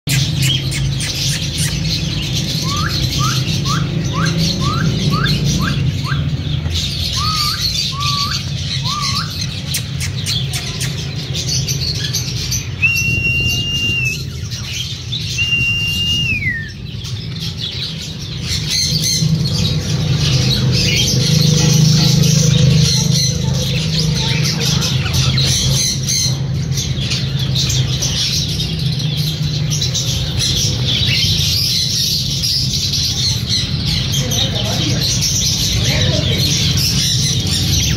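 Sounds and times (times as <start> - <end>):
caged birds whistling: 0.1 - 37.9.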